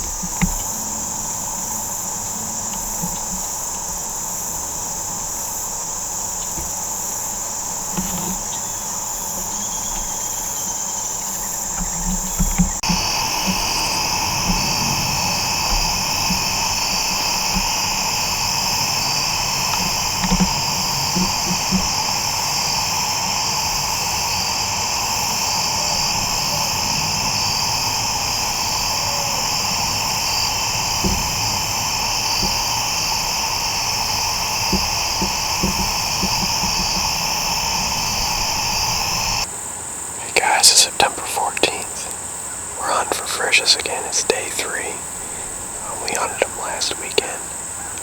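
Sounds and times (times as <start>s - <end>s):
insects shrilling: 0.0s - 48.0s.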